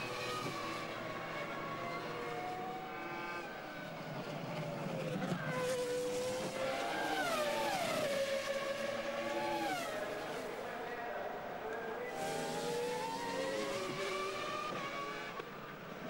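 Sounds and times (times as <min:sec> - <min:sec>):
racing car engines screaming: 0:00.0 - 0:16.0.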